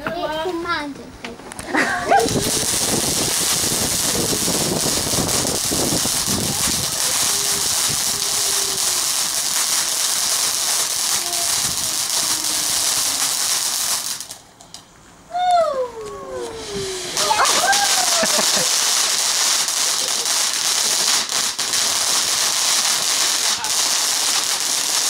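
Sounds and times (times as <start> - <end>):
firework fountain hissing: 2.0 - 14.8, 16.3 - 25.0.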